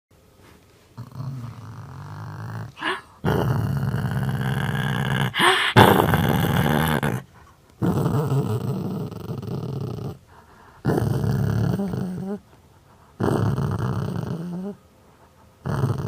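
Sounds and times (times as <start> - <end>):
dog growling: 1.0 - 14.8, 15.6 - 16.0.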